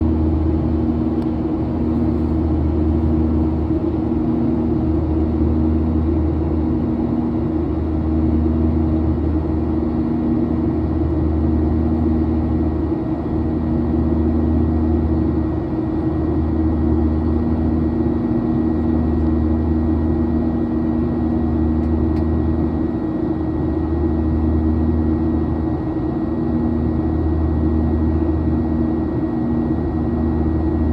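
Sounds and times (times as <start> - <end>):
airliner engine drone: 0.0 - 30.9.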